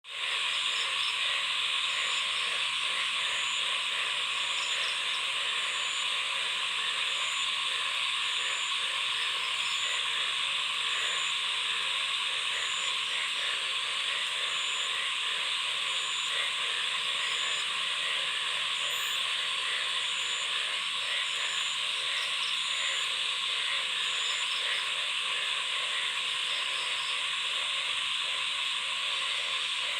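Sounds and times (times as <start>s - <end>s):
chorus of frogs calling: 0.1s - 29.9s.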